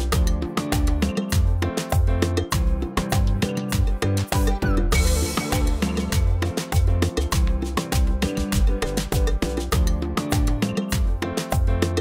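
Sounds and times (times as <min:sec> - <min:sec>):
bass line: 0:00.0 - 0:12.0.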